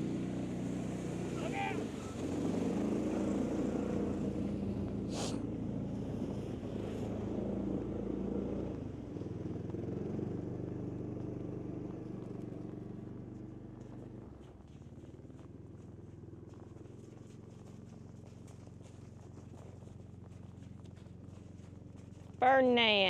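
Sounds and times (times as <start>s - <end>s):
utility cart engine running: 0.0s - 23.0s.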